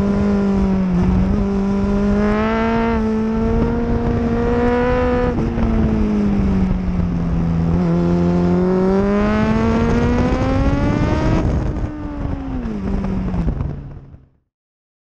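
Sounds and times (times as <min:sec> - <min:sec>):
motorcycle engine revving: 0:00.0 - 0:14.4.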